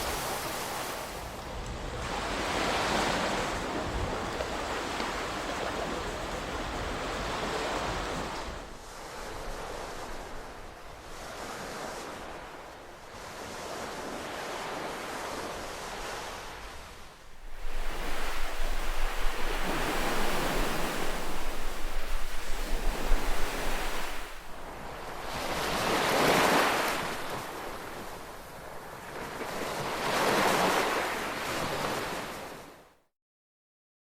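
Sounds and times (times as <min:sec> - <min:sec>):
ocean waves breaking: 0:00.0 - 0:32.8.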